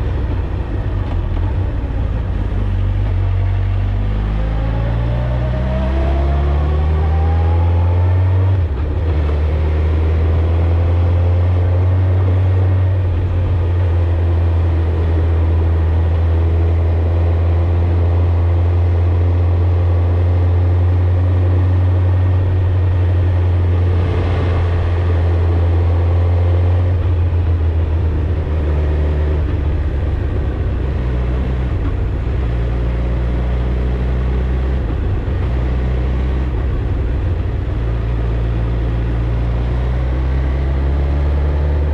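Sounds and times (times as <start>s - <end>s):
rushing wind: 0.0s - 19.8s, 20.9s - 41.9s
motorcycle engine drone: 0.0s - 41.9s.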